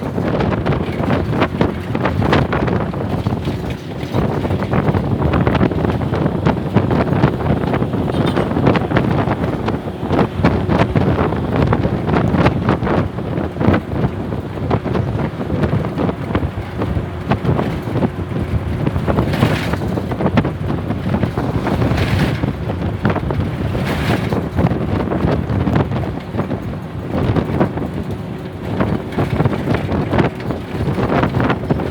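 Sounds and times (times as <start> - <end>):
bus engine and road drone: 0.0 - 31.9
rattles: 0.0 - 31.9
wind buffeting microphone: 0.0 - 31.9.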